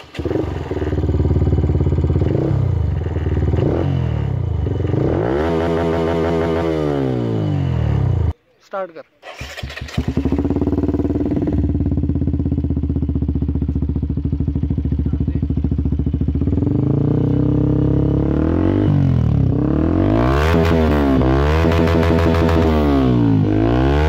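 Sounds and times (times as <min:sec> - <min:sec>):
motorcycle engine idling and revving: 0:00.0 - 0:08.4, 0:09.3 - 0:24.0.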